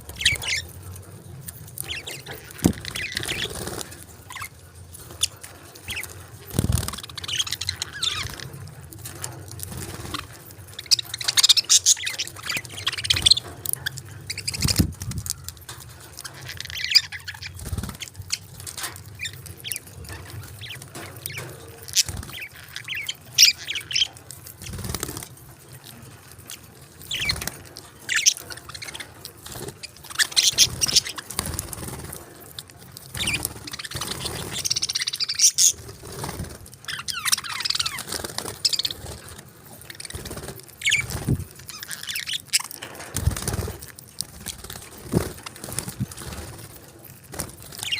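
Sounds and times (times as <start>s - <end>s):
budgerigars chirping: 0.0s - 0.8s, 1.6s - 15.3s, 15.9s - 25.3s, 26.5s - 32.2s, 33.1s - 43.8s.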